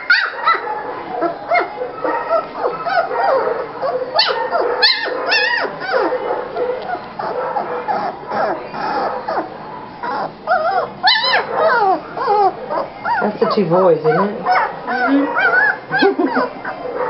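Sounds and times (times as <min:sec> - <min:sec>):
puppies whimpering and yipping: 0:00.0 - 0:17.0.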